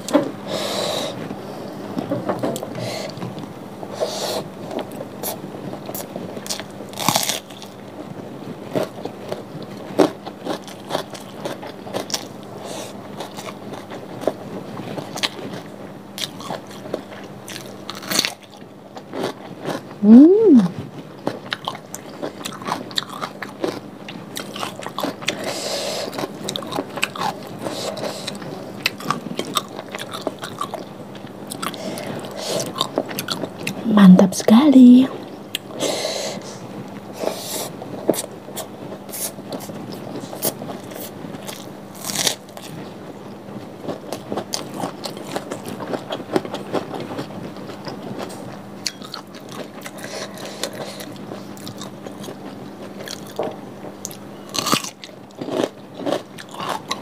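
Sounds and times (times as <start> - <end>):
chewing food: 1.9 - 33.8, 37.2 - 57.0.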